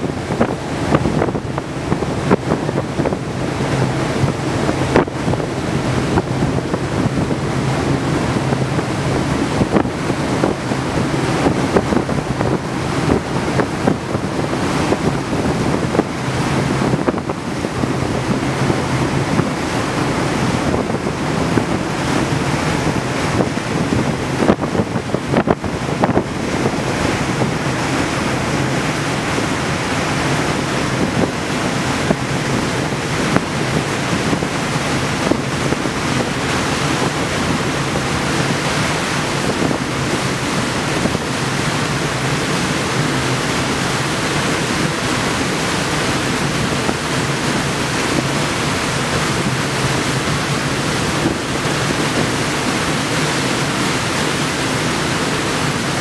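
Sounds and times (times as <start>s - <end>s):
sea water: 0.0s - 56.0s
wind on microphone: 0.0s - 56.0s.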